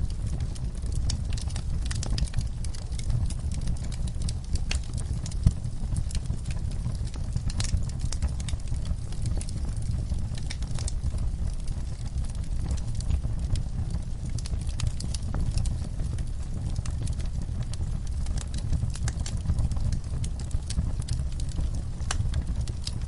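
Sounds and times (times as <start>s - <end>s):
fire crackling in fireplace: 0.0s - 23.0s
low fire rumble: 0.0s - 23.0s.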